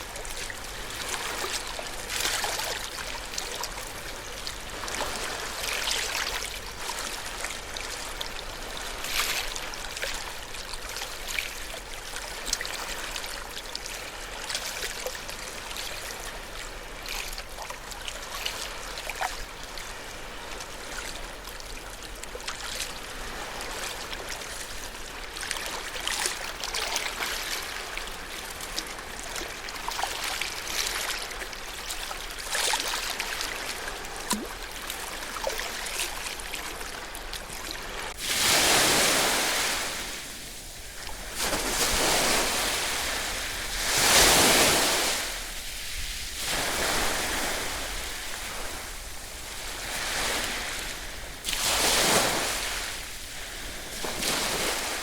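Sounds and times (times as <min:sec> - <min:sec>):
small ocean waves washing ashore: 0:00.0 - 0:55.0
water splashes and trickles: 0:00.0 - 0:55.0.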